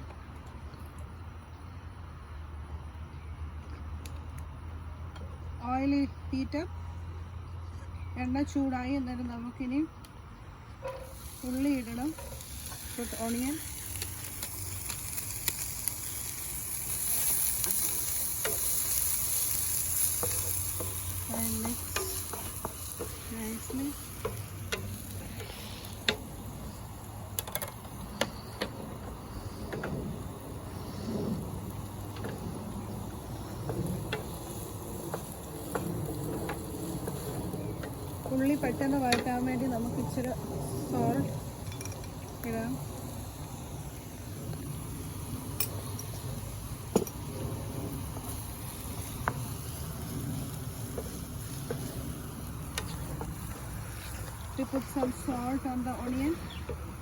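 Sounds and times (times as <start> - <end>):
onions frying in oil: 11.0 - 57.0
steady low rumble: 11.2 - 57.0.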